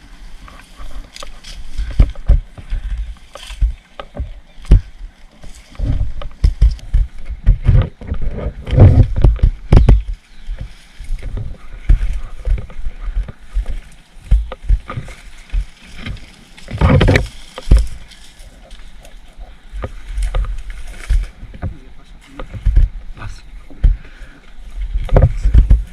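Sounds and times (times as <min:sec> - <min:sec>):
rustling through thick vegetation: 0:00.0 - 0:25.9
thumps on body-worn camera: 0:00.4 - 0:25.9.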